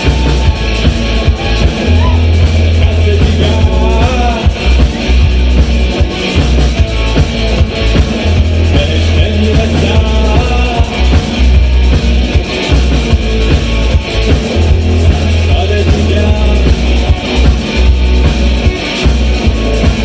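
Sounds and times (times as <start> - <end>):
rock band music: 0.0 - 20.0.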